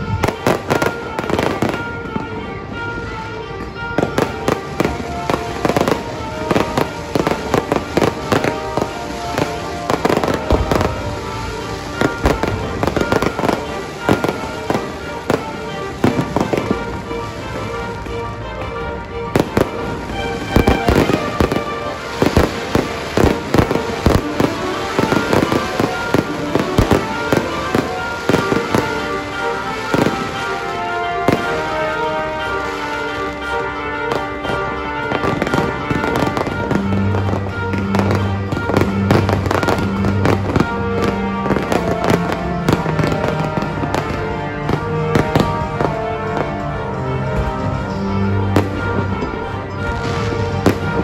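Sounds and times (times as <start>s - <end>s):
fireworks bangs and crackling: 0.0s - 51.0s
music with sustained notes: 0.0s - 51.0s.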